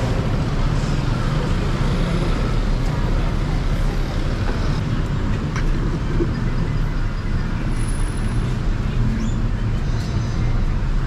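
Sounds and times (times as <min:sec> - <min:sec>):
busy road traffic: 0:00.0 - 0:11.0.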